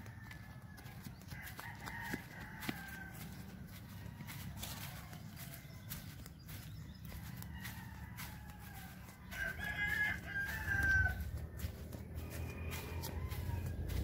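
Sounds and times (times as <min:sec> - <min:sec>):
rooster crowing: 0:00.0 - 0:14.0.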